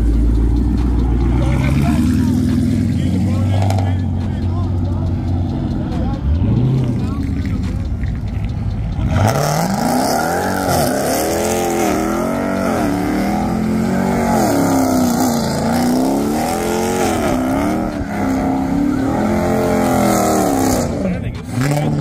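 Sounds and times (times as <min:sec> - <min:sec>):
car engine revving: 0:00.0 - 0:22.0
tires squealing: 0:00.0 - 0:22.0.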